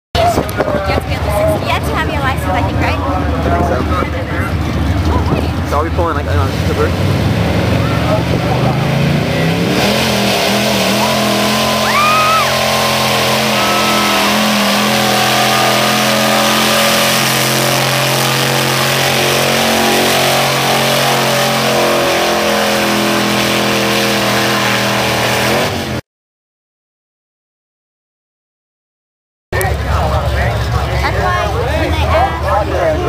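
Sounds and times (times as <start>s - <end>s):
truck engine at high revs: 0.2s - 26.0s, 29.6s - 33.0s.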